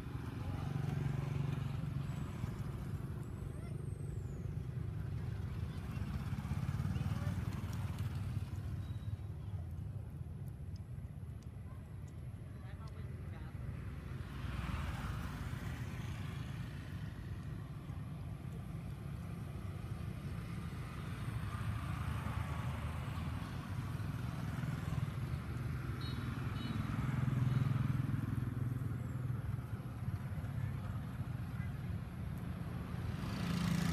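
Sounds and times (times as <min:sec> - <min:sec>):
vehicle engine rumble: 0:00.0 - 0:33.9.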